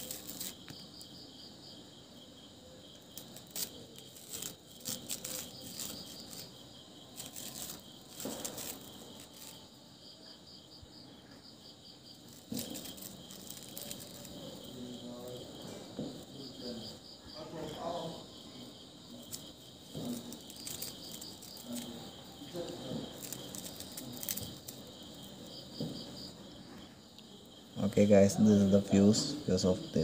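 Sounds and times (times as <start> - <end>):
rustling of paper and string: 0.0 - 1.4, 2.6 - 29.3
crickets chirping: 0.0 - 30.0.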